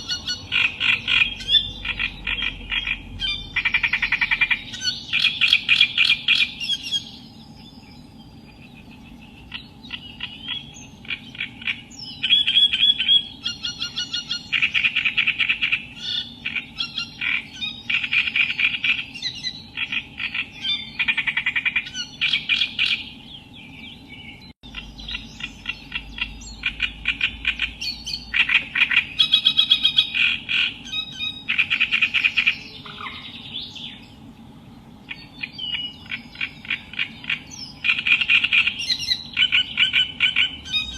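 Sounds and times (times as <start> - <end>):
steady low hum: 0.0 - 40.9
warbler singing harsh chatter: 0.0 - 40.9.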